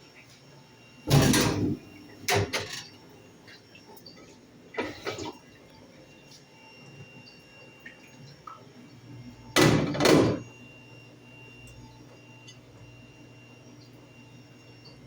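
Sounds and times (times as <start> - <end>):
dishwasher humming: 0.0 - 15.0.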